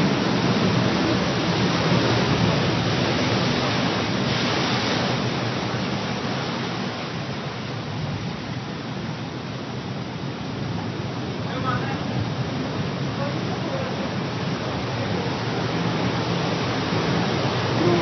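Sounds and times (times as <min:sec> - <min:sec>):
sea surf rushing into cave: 0:00.0 - 0:18.0.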